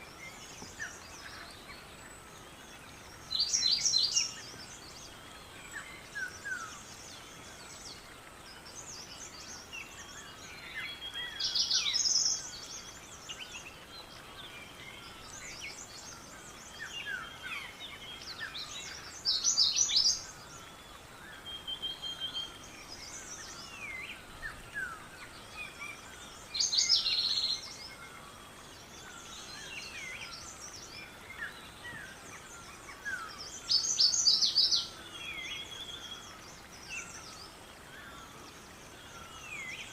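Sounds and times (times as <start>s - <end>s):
bird song phrase: 0.0s - 39.9s
soft bird chirps: 0.0s - 39.9s.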